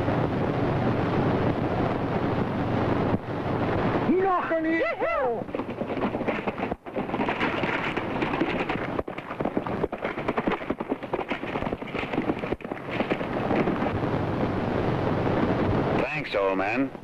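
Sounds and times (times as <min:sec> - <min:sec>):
film soundtrack hiss: 0:00.0 - 0:17.0.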